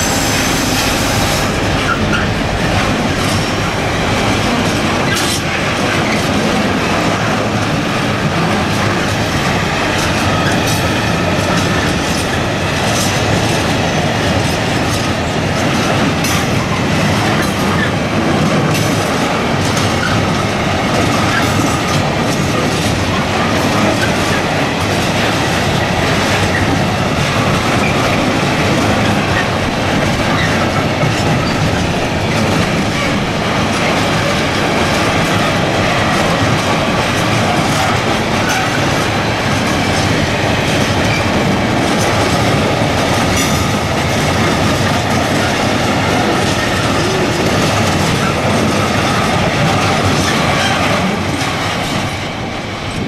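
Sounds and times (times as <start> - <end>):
freight train rolling past: 0.0 - 53.0
wheels clacking over rail joints: 0.0 - 53.0.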